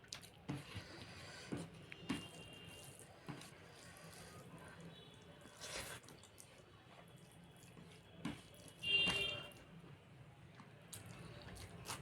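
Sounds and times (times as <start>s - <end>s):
wet eating sounds: 0.0s - 8.8s, 10.5s - 12.0s.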